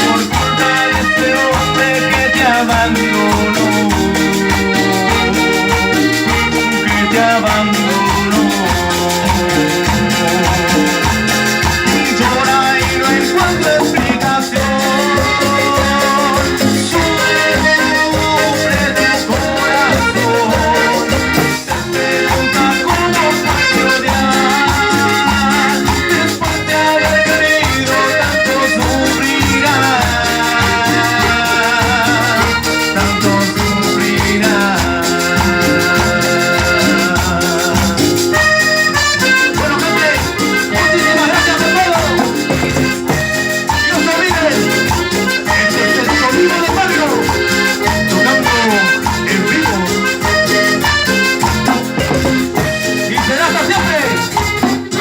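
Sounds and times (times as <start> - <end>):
dance beat: 0.0 - 34.6, 37.4 - 55.0
keyboard melody: 0.0 - 55.0.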